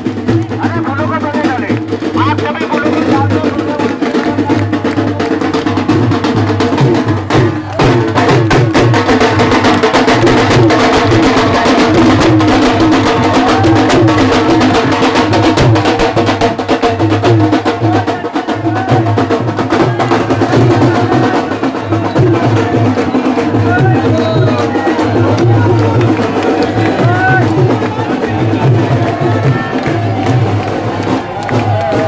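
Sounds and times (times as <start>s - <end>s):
music with fast percussion: 0.0s - 32.0s.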